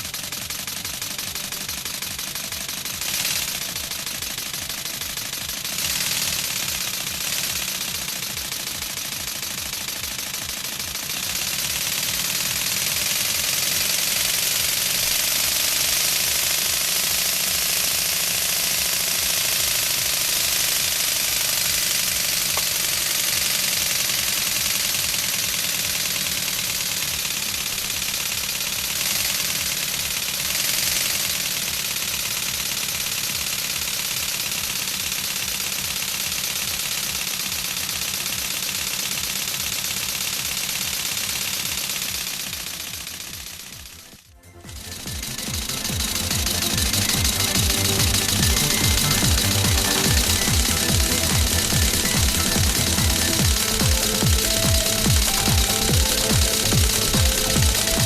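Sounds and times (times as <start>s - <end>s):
pneumatic engine clattering: 0.0s - 58.0s.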